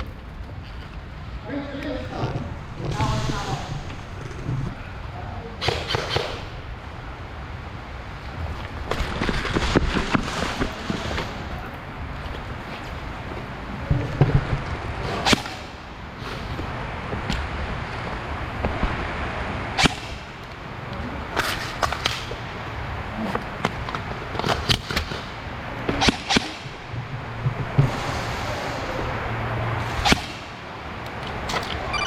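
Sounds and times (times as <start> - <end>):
steady outdoor hiss: 0.0 - 32.0.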